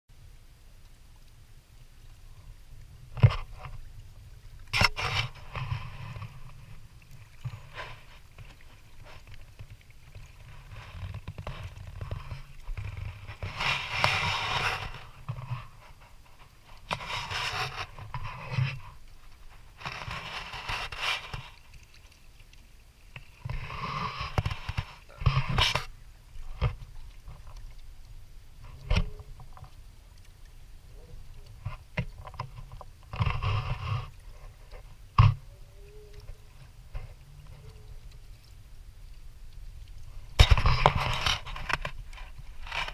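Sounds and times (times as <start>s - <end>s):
paddle strokes splashing: 2.1s - 42.9s.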